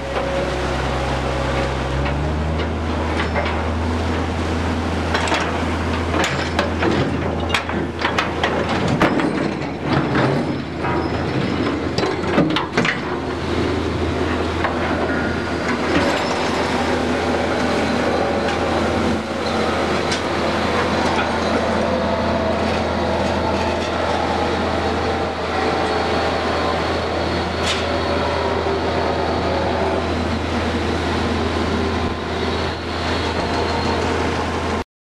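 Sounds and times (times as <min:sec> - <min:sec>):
low machinery drone: 0:00.0 - 0:34.8.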